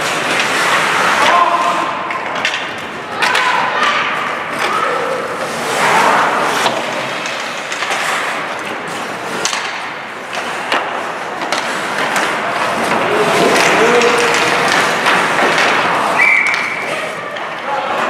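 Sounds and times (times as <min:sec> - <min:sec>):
hockey sticks and puck clacking: 0:00.0 - 0:18.0
skate blades scraping ice: 0:00.0 - 0:18.0.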